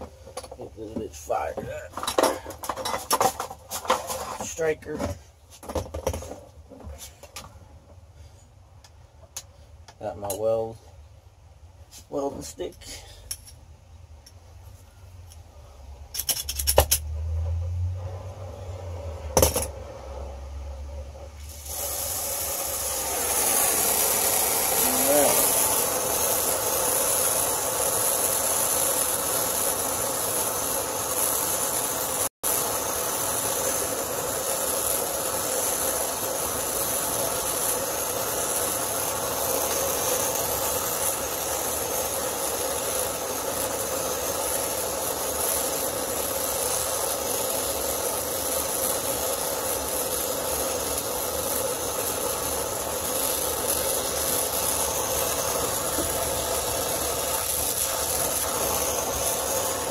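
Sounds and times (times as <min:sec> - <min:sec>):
torch flame hissing: 0:00.0 - 0:05.5, 0:17.2 - 0:59.9.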